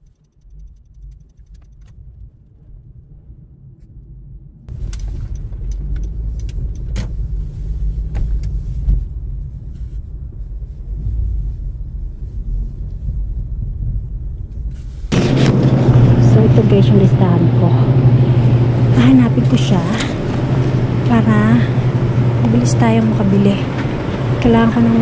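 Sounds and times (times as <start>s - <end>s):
road rumble inside car: 0.0s - 25.0s.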